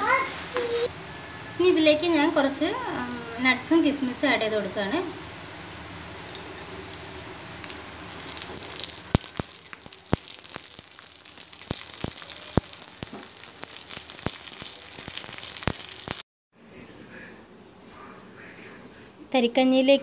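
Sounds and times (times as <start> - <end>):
food sizzling in a pan: 0.0 - 16.2.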